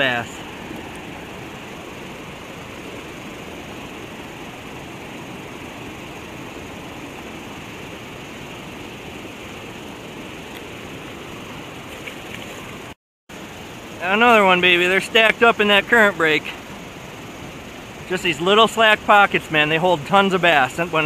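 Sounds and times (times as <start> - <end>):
river current rushing: 0.0 - 21.0.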